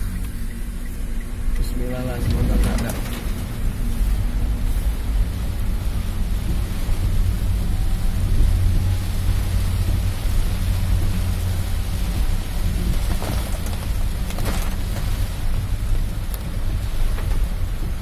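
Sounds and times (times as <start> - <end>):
car low rumble: 0.0 - 18.0
heavy rain on car roof: 0.0 - 18.0.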